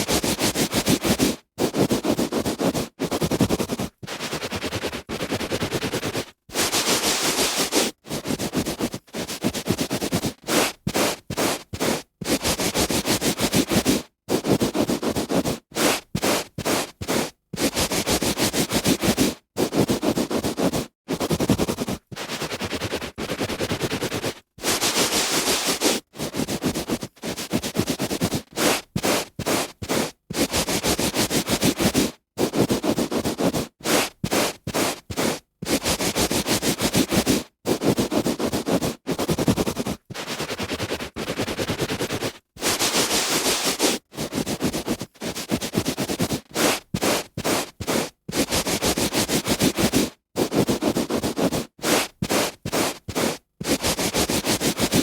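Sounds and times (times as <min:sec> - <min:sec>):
hand rubbing on carpet: 0:00.0 - 0:55.0.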